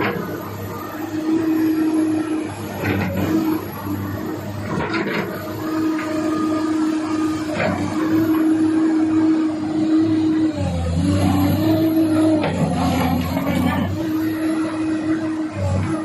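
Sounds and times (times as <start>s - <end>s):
diesel engine running: 0.0s - 16.0s
steady whine: 0.0s - 16.0s.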